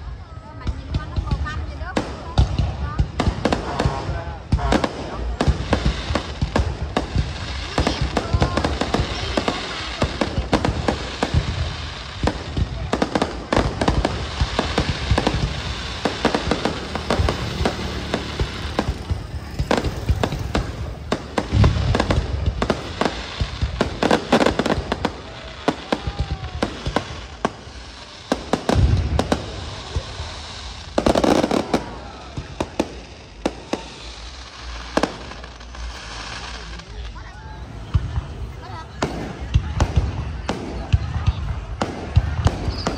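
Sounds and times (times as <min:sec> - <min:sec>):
deep fireworks booms: 0:00.0 - 0:42.9
fireworks bangs and crackling: 0:00.0 - 0:42.9.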